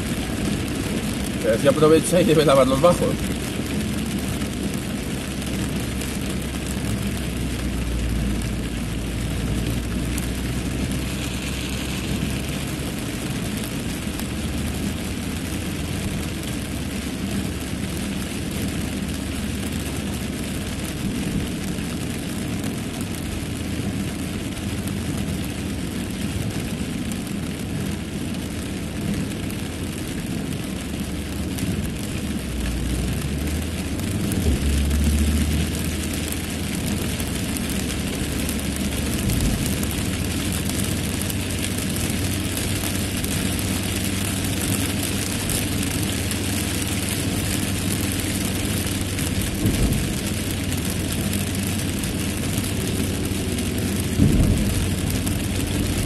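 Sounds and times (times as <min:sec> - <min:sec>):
car engine and tyres on wet road: 0:00.0 - 0:56.0
rain hitting windscreen: 0:00.0 - 0:56.0.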